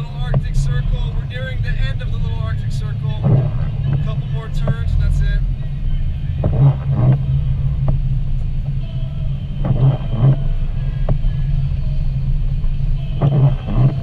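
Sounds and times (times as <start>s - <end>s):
car road and engine rumble: 0.0s - 14.0s
windshield wipers swishing: 0.0s - 14.0s.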